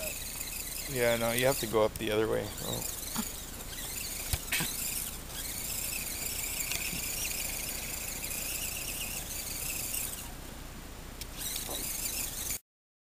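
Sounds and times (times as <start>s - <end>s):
rc car motor whining: 0.0s - 10.4s, 11.2s - 12.6s.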